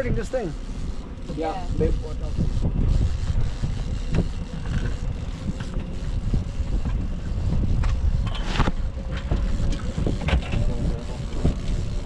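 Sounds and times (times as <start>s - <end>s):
boat motor humming: 0.0s - 12.0s
wind buffeting microphone: 0.0s - 12.0s.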